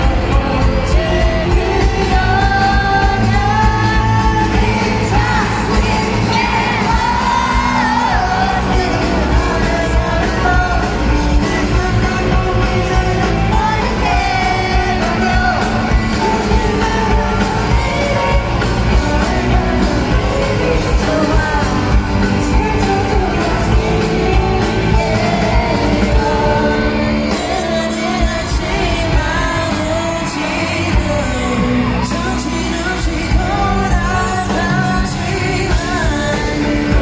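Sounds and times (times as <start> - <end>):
fans yelling and cheering: 0.0 - 37.0
lead vocal singing: 0.0 - 37.0
live pop-rock band playing: 0.0 - 37.0.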